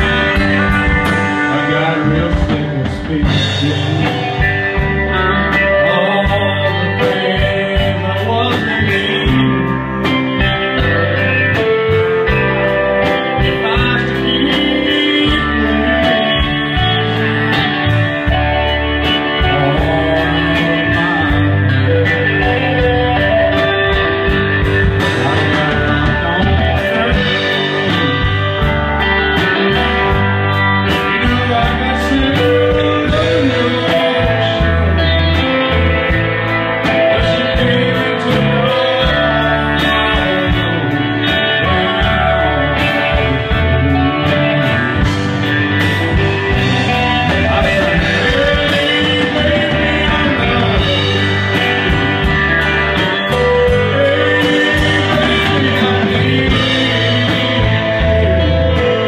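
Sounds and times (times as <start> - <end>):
electric guitar: 0.0 - 59.0
live blues-rock band playing: 0.0 - 59.0.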